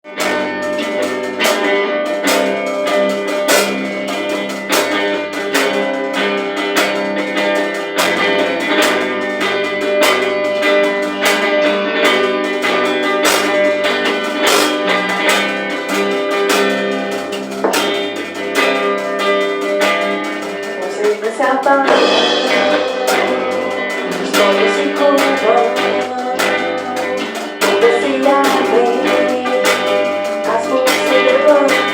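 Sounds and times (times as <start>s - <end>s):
guitar strummed over held chords: 0.0s - 31.9s.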